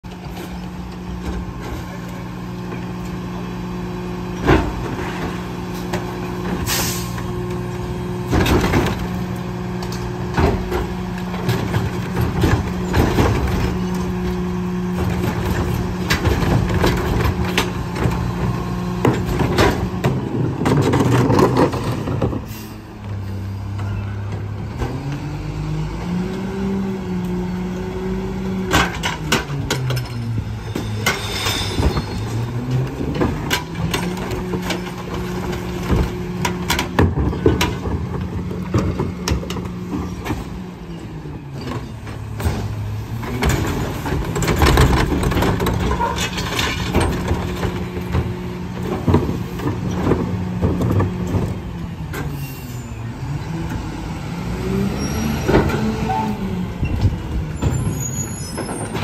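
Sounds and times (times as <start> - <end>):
garbage truck engine running: 0.0 - 59.0
trash clanking into hopper: 4.3 - 22.9, 28.5 - 53.9, 54.7 - 59.0.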